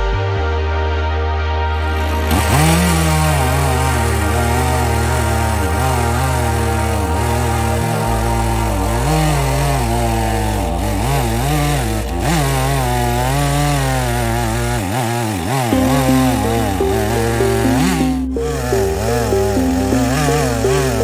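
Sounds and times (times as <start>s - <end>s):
background music with bass line: 0.0s - 14.2s, 15.7s - 21.0s
chainsaw cutting wood: 2.0s - 21.0s.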